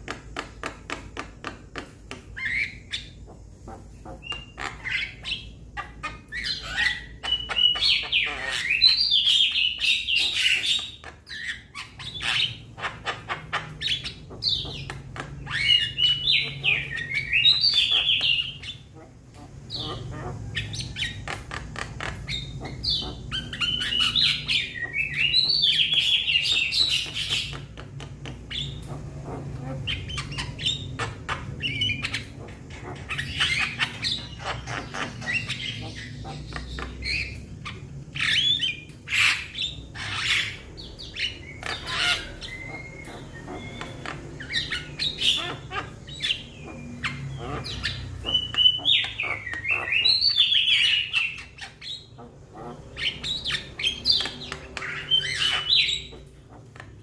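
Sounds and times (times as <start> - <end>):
myna squawks and chatter: 2.5 - 57.0.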